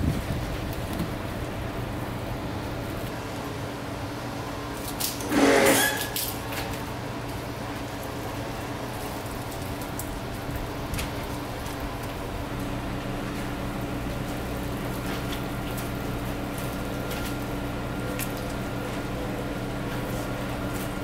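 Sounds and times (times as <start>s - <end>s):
steady low hum: 0.0s - 4.9s, 6.8s - 21.0s.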